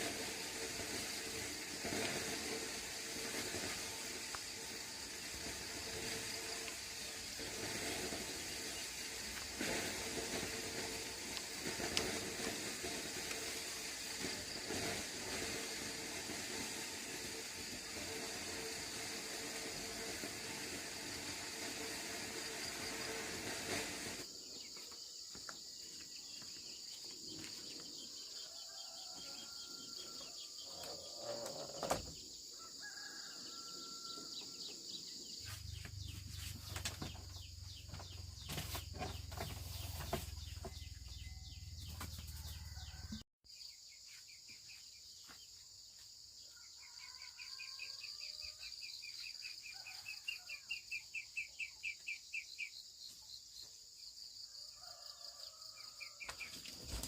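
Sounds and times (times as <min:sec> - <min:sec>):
rapid pulsing insect chirp: 0:00.0 - 0:57.0.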